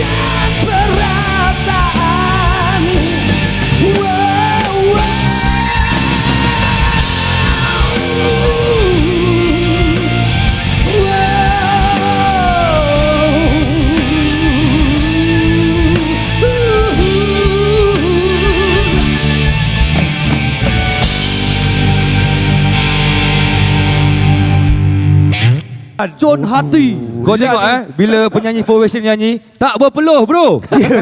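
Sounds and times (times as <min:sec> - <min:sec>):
bass: 0:00.0 - 0:25.7
drums: 0:00.0 - 0:26.0
electric guitar: 0:00.0 - 0:26.0.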